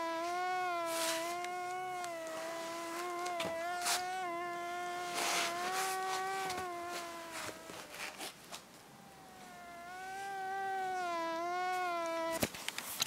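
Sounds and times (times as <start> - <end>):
mosquito whine: 0.0 - 12.5.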